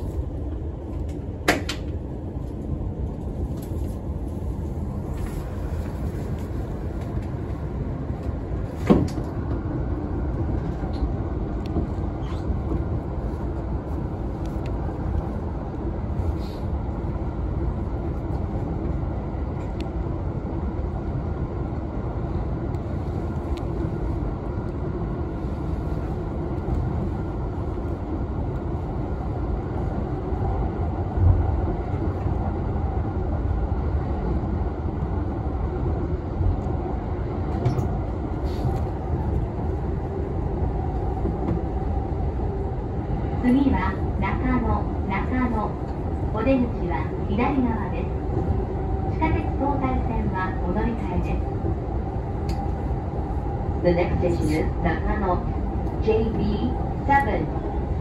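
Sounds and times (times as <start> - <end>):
train rolling rumble: 0.0 - 58.0.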